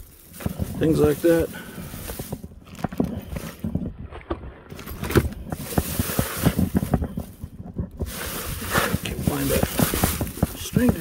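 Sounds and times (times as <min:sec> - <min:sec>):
fishing gear rummaging clicks: 0:00.0 - 0:03.9, 0:04.7 - 0:11.0.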